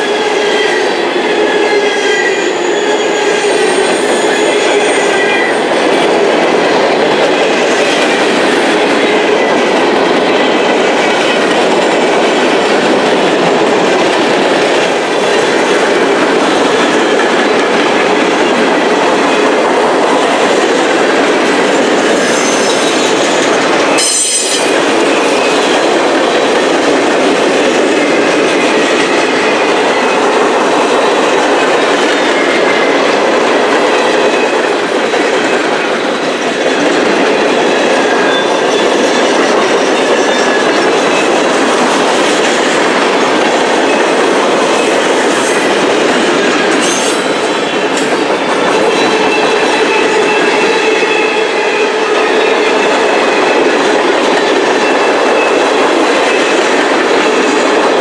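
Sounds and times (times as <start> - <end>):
steel wheels clattering over rail joints: 2.5 - 58.0.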